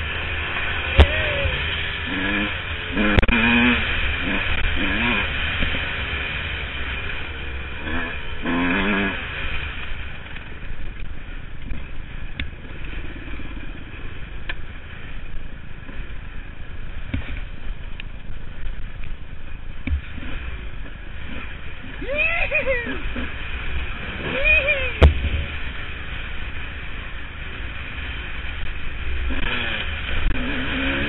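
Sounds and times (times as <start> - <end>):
dirt bike engine revving: 0.0 - 17.6, 19.8 - 31.0.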